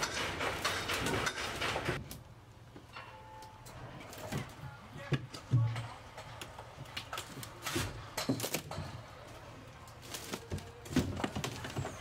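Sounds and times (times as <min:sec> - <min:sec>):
knocks and clatter of demolition: 0:00.0 - 0:09.3, 0:09.9 - 0:12.0.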